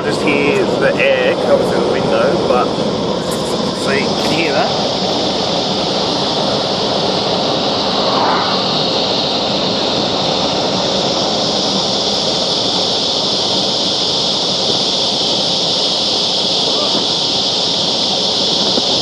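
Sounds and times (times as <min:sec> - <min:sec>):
cicadas droning: 0:00.0 - 0:19.0
wind and road noise: 0:00.0 - 0:19.0.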